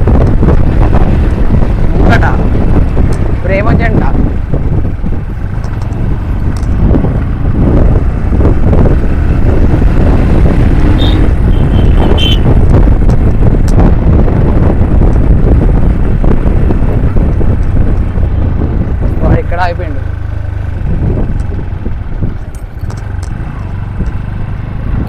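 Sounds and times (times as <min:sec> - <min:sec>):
motorcycle engine: 0:00.0 - 0:25.0
wind buffeting microphone: 0:00.0 - 0:25.0.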